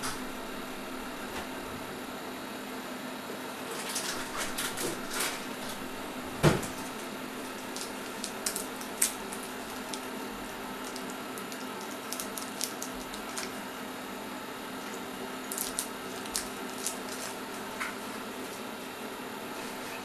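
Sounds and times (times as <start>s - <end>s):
cooking machine humming: 0.0s - 20.0s.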